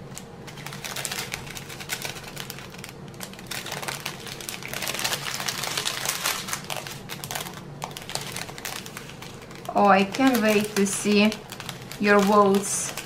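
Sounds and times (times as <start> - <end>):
plastic bag crinkling: 0.0 - 13.0
tiny beads clicking in bags: 0.5 - 13.0.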